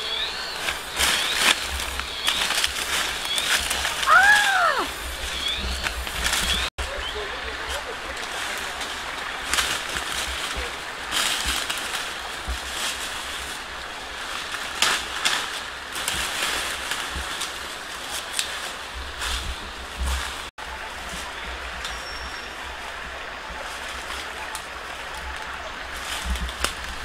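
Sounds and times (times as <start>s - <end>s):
footsteps crunching through dry leaves: 0.0s - 27.0s.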